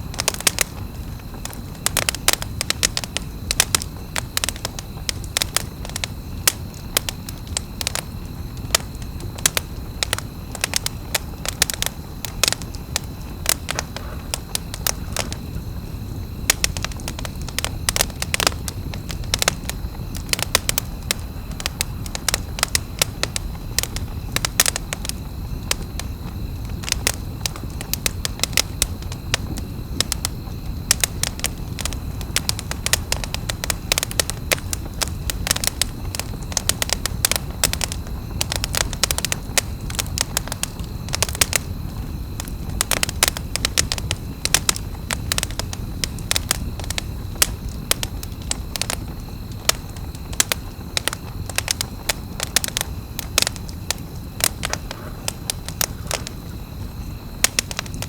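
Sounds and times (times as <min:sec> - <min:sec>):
campfire crackling: 0:00.0 - 0:58.0
fire snaps and pops: 0:00.0 - 0:58.0
low noise of burning fire: 0:00.0 - 0:58.0.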